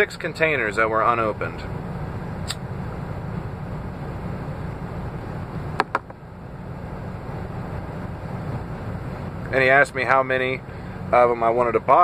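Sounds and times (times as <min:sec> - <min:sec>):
truck cab hum: 0:00.0 - 0:12.0.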